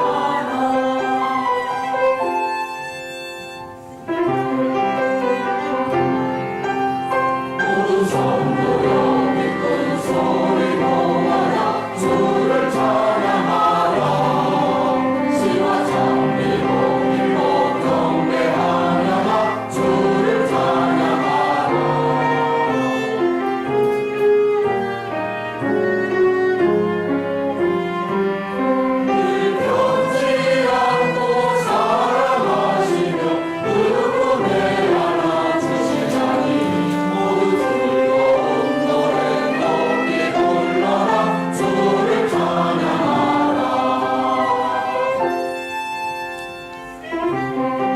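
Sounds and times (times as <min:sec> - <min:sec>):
church choir singing: 0:00.0 - 0:47.9
instrumental accompaniment: 0:00.0 - 0:47.9.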